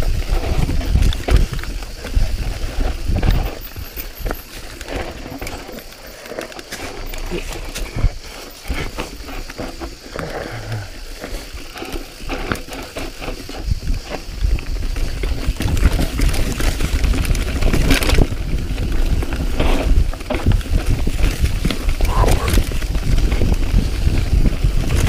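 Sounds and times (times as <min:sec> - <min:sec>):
wind rumble on microphone: 0:00.0 - 0:05.8, 0:06.7 - 0:25.0
bike tyres rolling over dirt: 0:00.0 - 0:25.0
bike clattering and knocking: 0:00.1 - 0:10.2, 0:11.1 - 0:25.0.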